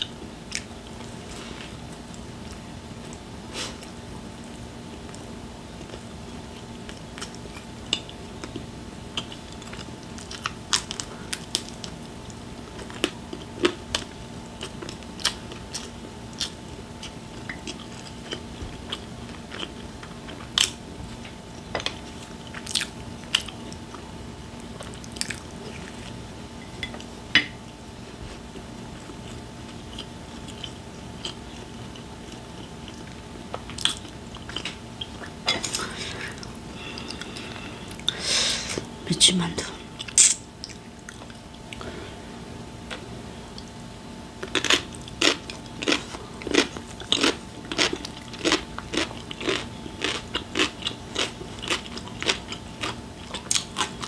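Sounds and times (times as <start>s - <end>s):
chewing crisp bread: 0.0s - 38.2s, 40.0s - 42.0s, 42.8s - 54.0s
steady low hum: 0.0s - 54.0s.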